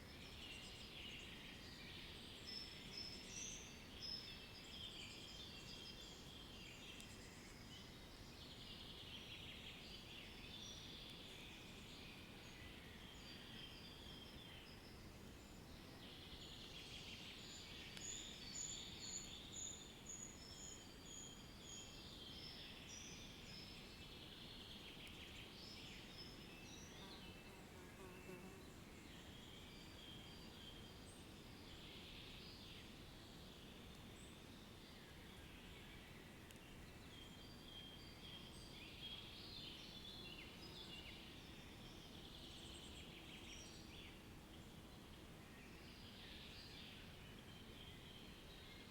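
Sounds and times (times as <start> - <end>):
low steady hiss: 0.0 - 48.9.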